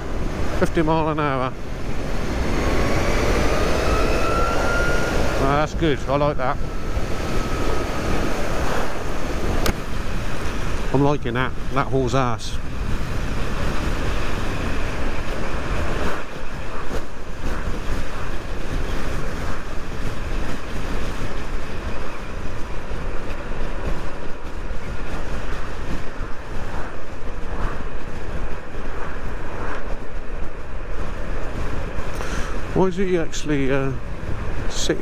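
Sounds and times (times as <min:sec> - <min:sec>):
motorcycle tyre noise: 0:00.0 - 0:35.0
wind rushing over microphone: 0:00.0 - 0:35.0.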